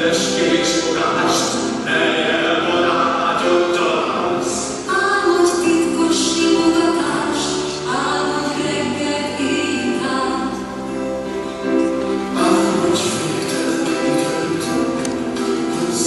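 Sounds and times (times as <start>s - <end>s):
children's choir singing: 0.0s - 10.7s, 12.2s - 16.0s
electronic keyboard accompaniment: 0.0s - 16.0s.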